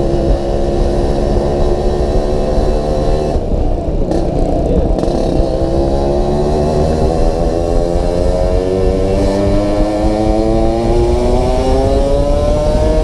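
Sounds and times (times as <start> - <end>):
motorcycle engine drone: 0.0 - 13.0.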